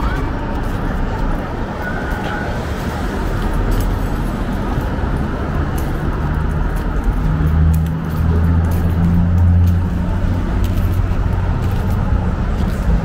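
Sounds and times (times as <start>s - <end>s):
passing cars: 0.0s - 13.0s.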